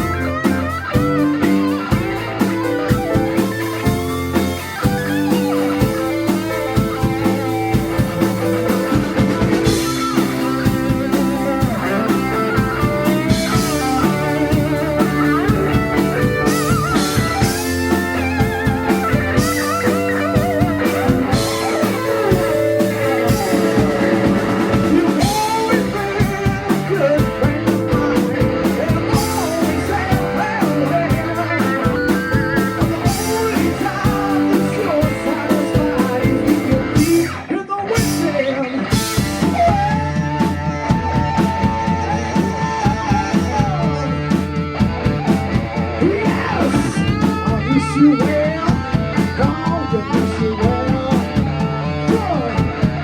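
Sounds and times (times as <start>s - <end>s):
drum kit beat: 0.0s - 37.4s, 38.0s - 53.0s
bass guitar: 0.0s - 53.0s
electric guitar bending notes: 0.0s - 53.0s.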